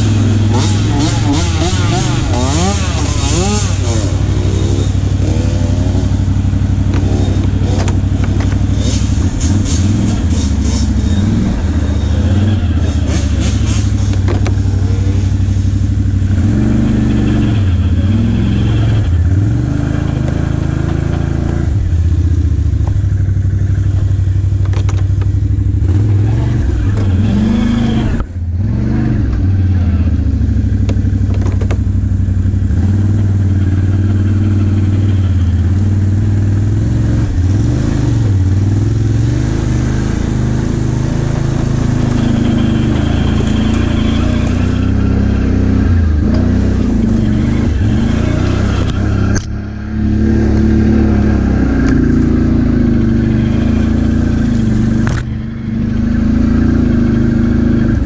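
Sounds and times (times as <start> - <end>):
atv engine revving under load: 0.0 - 58.0.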